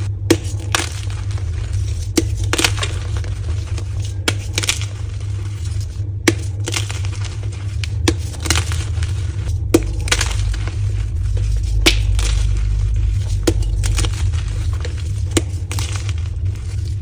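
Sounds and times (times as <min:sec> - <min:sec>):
chalk cracking and crumbling: 0:00.0 - 0:17.0
low hum: 0:00.0 - 0:17.0.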